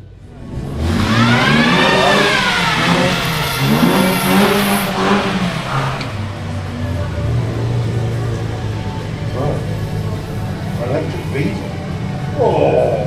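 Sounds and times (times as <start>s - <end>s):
car accelerating: 0.0s - 13.0s.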